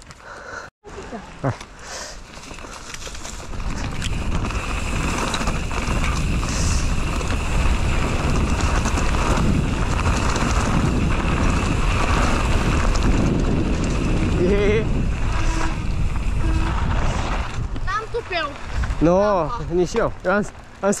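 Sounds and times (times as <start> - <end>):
bike rattling and clicking: 0.0 - 21.0
wind buffeting microphone: 3.3 - 20.2.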